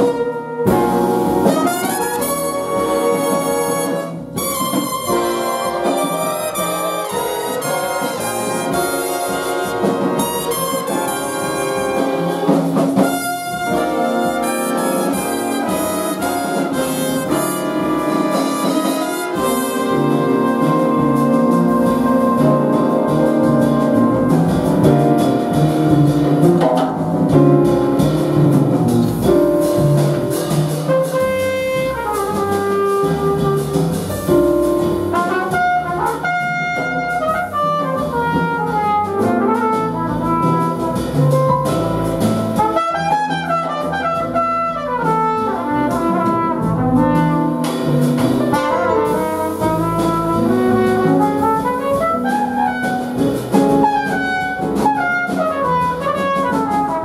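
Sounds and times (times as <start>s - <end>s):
trumpet playing quick runs: 0.0s - 24.6s, 30.4s - 34.1s, 35.1s - 41.6s, 42.5s - 57.0s
jazz ensemble playing: 0.0s - 57.0s.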